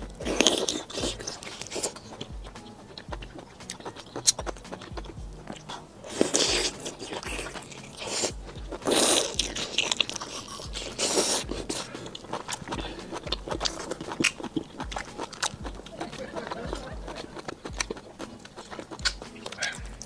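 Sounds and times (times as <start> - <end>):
close biting and chewing: 0.0 - 20.0
wet mouth clicks and smacks: 0.0 - 20.0.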